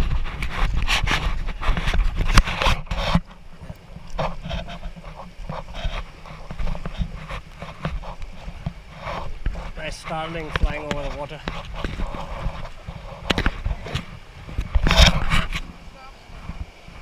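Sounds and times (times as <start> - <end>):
paddles splashing in river water: 0.0 - 17.0
wind buffeting microphone: 0.0 - 17.0.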